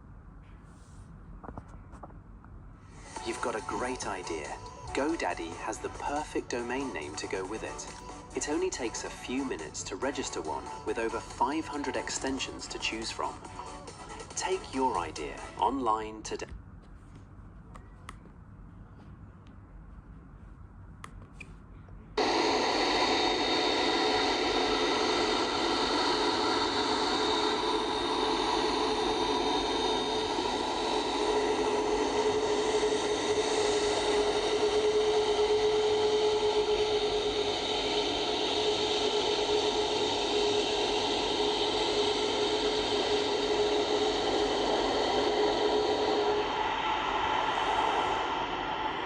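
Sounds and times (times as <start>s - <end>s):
jet engine whine: 2.9s - 16.4s, 22.2s - 49.0s.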